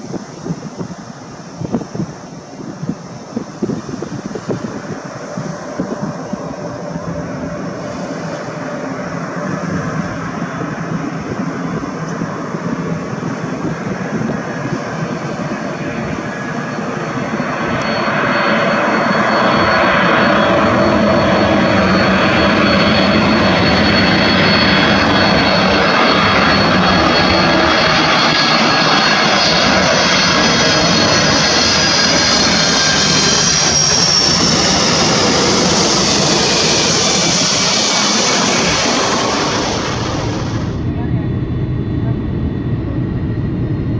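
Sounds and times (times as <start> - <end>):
jet engines with high whine: 0.0 - 43.9
airplane cabin rumble: 1.6 - 43.9.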